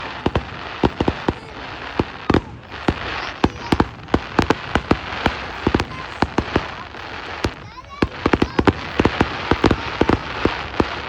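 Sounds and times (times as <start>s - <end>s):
fireworks banging: 0.0s - 11.0s.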